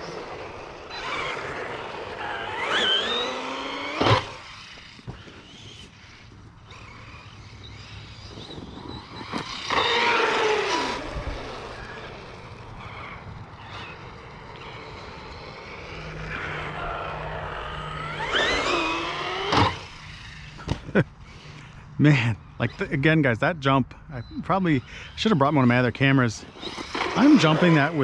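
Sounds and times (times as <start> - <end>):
toy car electric motor whining: 0.0 - 21.5, 26.4 - 28.0.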